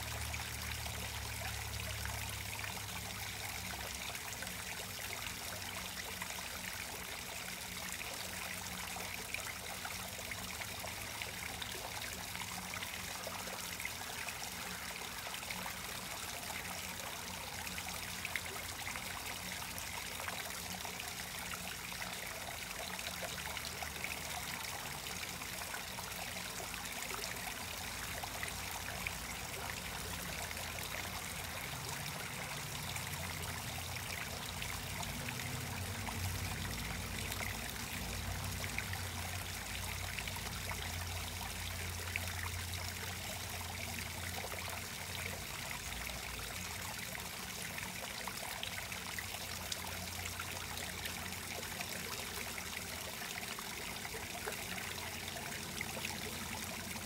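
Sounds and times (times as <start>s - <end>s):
waterfall trickling into pond: 0.0s - 57.0s.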